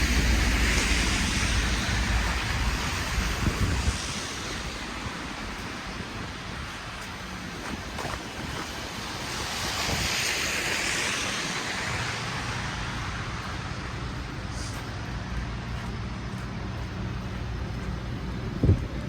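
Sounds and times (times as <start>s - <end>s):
wet tyre hiss: 0.0s - 18.4s
low engine hum: 0.0s - 19.0s.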